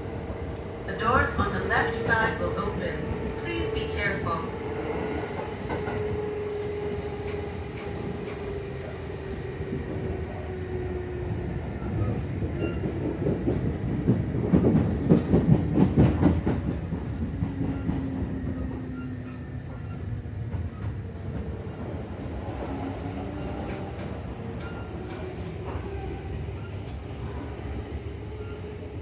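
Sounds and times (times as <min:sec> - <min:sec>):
low steady train hum: 0:00.0 - 0:29.0.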